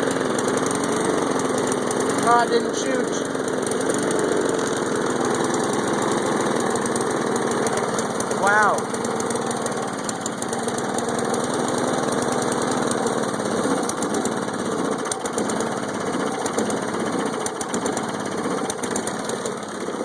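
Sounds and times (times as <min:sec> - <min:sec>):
lawn mower engine rattling: 0:00.0 - 0:20.0.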